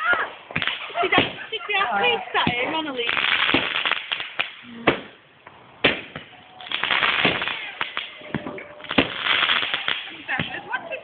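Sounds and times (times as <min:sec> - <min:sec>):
firework bangs: 0:00.0 - 0:11.0
firework crackling and pops: 0:00.0 - 0:11.0.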